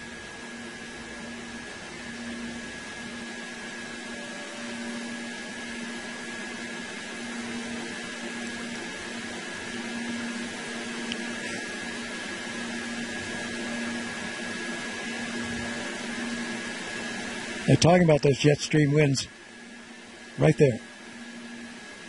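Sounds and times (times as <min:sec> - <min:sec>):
low pulsing hum: 0:00.0 - 0:19.9.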